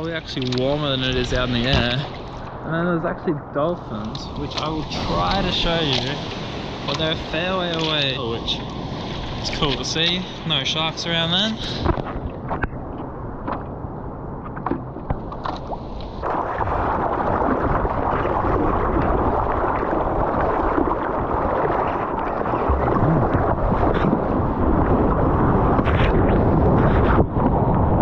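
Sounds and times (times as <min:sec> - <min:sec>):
paddling splashes: 0:00.0 - 0:02.6, 0:03.8 - 0:13.8, 0:14.5 - 0:27.2
sea water lapping and splashing: 0:00.0 - 0:02.6, 0:03.5 - 0:28.0
rush of water on a wave: 0:00.0 - 0:13.6, 0:14.4 - 0:28.0.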